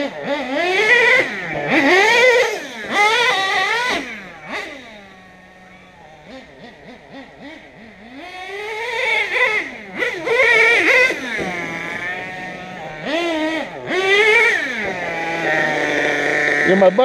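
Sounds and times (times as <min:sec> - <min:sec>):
model truck engine revving: 0:00.0 - 0:17.0.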